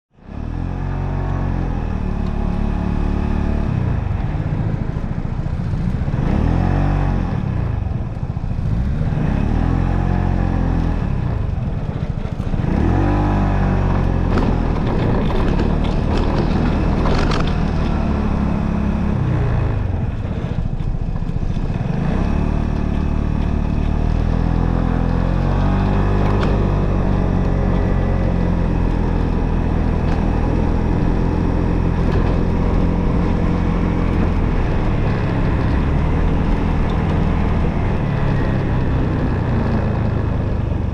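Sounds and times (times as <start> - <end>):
motorcycle engine revving: 0.2 - 40.9.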